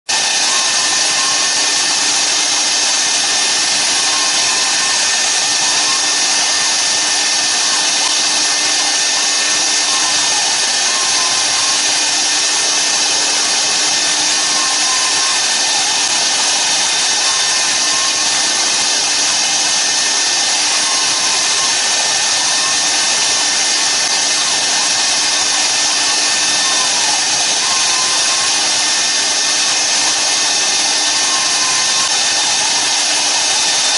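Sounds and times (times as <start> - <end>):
cnc router cutting hiss: 0.1 - 33.9
spindle whine: 0.1 - 33.9.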